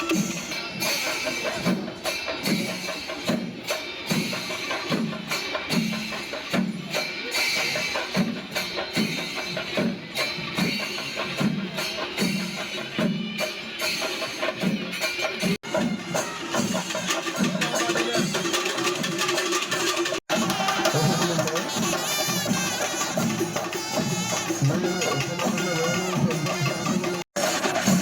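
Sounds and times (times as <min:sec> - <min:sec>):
cymbals clashing: 0:00.0 - 0:28.0
drums beating fast: 0:00.0 - 0:28.0.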